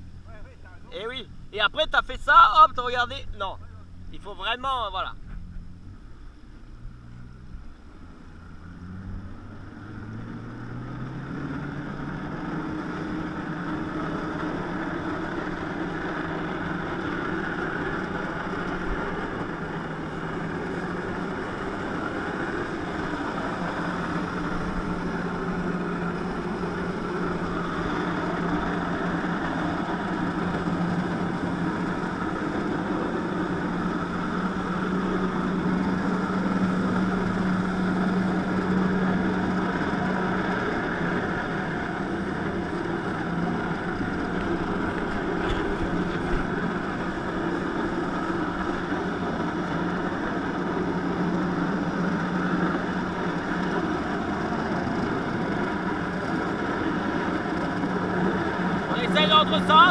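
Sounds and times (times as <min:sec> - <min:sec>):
jet ski engine revving: 0:00.0 - 0:59.9.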